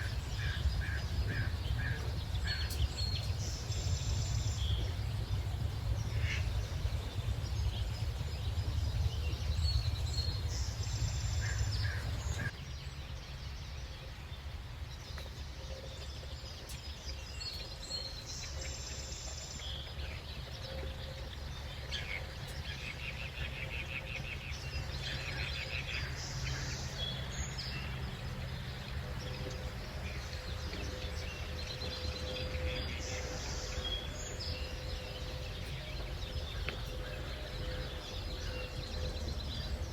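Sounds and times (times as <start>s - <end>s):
birds chirping and trilling: 0.0s - 39.9s
low background rumble: 0.0s - 39.9s.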